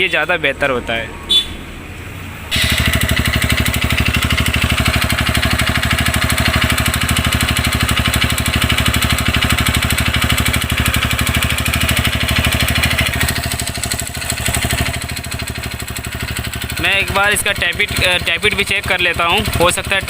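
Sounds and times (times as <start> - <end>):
motorcycle engine running: 2.5 - 20.0
internal engine knocking noise: 2.6 - 20.0.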